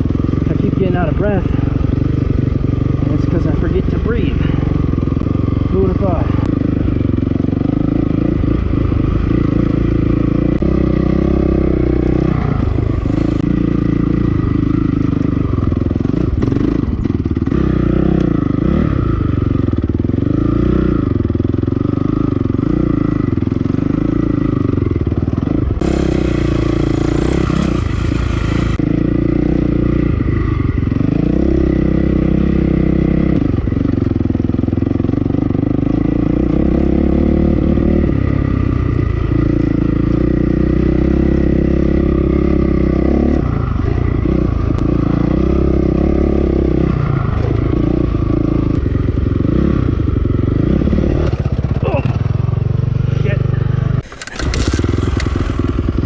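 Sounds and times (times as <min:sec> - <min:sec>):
chassis rattle over bumps: 0:00.0 - 0:20.4, 0:21.0 - 0:56.0
motorcycle engine revving: 0:00.0 - 0:56.0.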